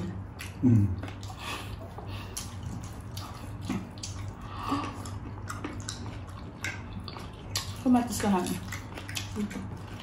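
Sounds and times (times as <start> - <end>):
steady low hum: 0.0 - 10.0
wet chewing and lip-smacking: 0.0 - 10.0.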